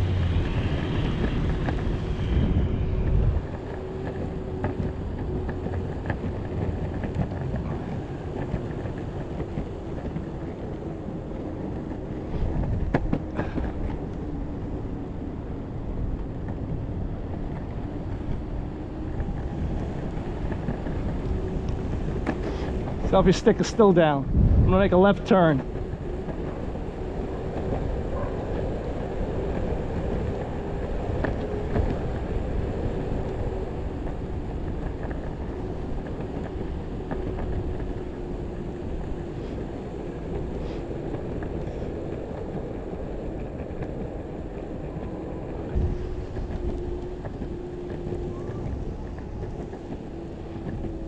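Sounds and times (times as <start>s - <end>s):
wheel and road noise rush: 0.0s - 51.0s
wind on microphone: 0.0s - 51.0s.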